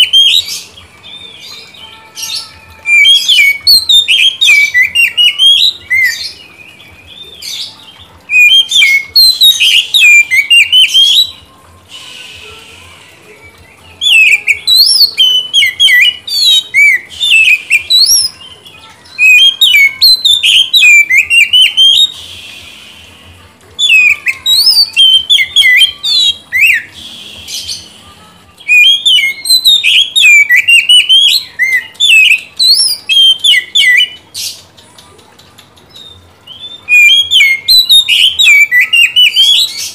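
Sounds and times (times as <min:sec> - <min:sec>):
bird singing whistled notes: 0:00.0 - 0:23.2, 0:23.8 - 0:34.6, 0:35.9 - 0:39.9.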